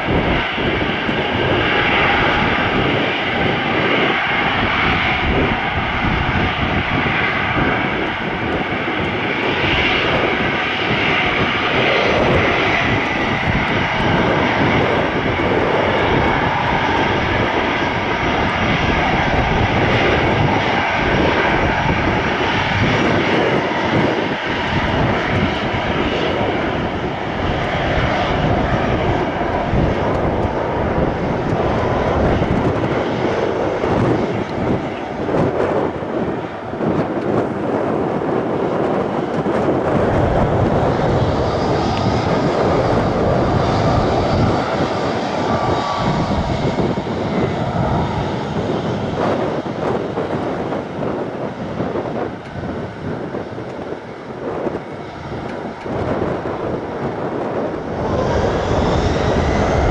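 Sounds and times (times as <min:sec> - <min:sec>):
jet engines running: 0:00.0 - 0:59.9
faint engine whine: 0:01.1 - 0:59.9.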